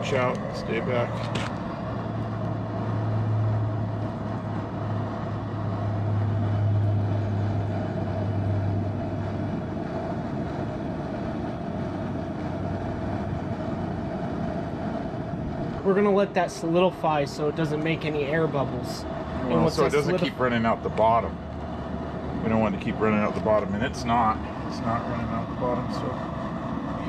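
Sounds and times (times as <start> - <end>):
jet burner running: 0.0 - 27.0
low hum: 0.0 - 27.0.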